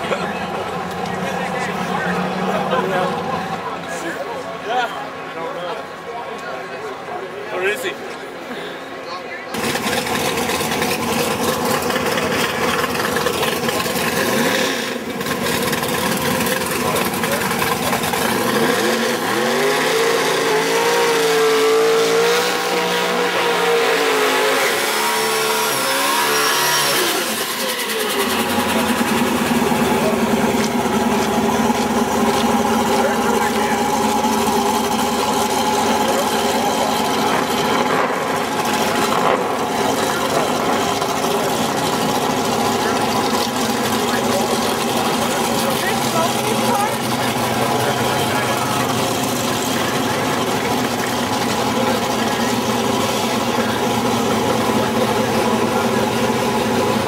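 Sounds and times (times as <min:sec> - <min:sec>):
car engine revving loudly: 0:09.6 - 0:57.0.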